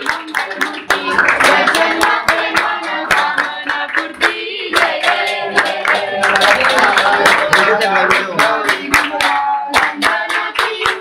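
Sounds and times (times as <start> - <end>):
crowd singing: 0.0 - 11.0
people clapping in time: 0.0 - 11.0.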